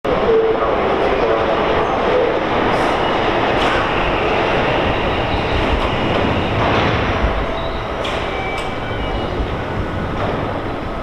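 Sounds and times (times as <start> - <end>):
electric train rumbling: 0.1 - 11.0.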